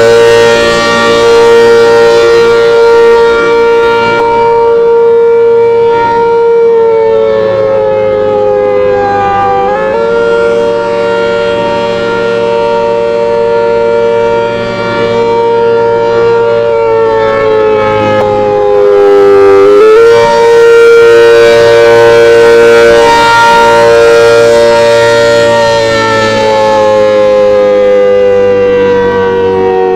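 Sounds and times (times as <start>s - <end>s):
warning siren wailing: 0.0s - 29.9s.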